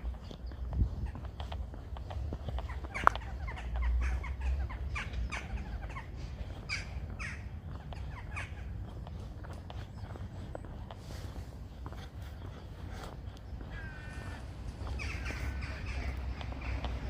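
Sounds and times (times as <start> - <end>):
birds calling falling cries: 0.0 - 17.0
low street rumble: 0.0 - 17.0.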